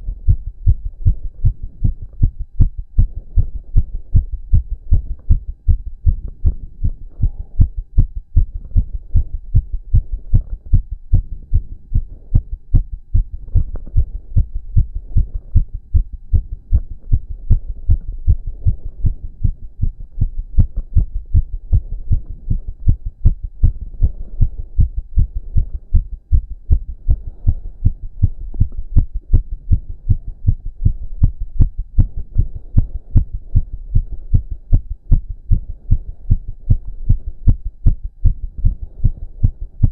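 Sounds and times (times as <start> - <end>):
fast heartbeat thumps: 0.0 - 39.9.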